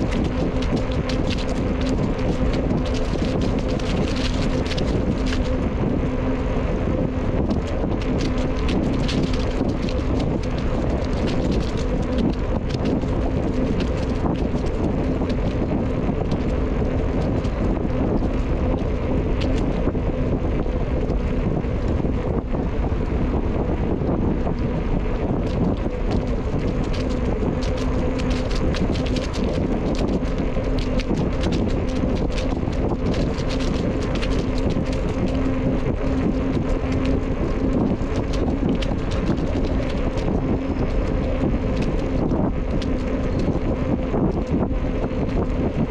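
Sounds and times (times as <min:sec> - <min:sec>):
small ticks: 0:00.0 - 0:05.8, 0:07.4 - 0:22.3, 0:24.5 - 0:45.9
faint steady hum: 0:00.0 - 0:45.9
tyre and trail noise: 0:00.0 - 0:45.9
wind rushing over microphone: 0:00.0 - 0:45.9.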